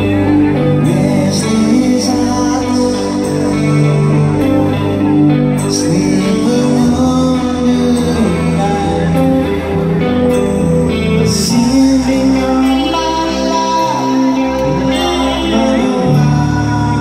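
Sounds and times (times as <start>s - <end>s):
man singing lead vocal: 0.0s - 17.0s
sustained guitar chords: 0.0s - 17.0s.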